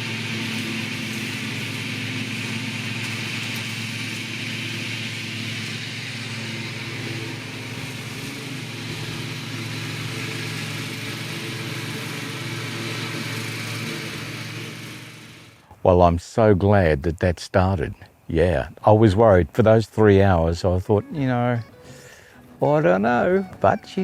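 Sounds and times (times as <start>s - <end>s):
lawn mower engine running: 0.0s - 15.8s, 19.3s - 24.0s.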